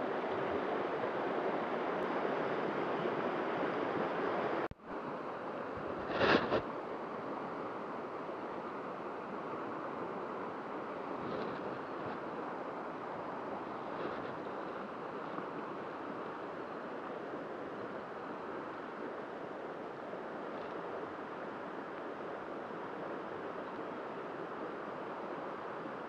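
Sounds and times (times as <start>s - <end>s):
river rushing over shallows: 0.0s - 26.0s.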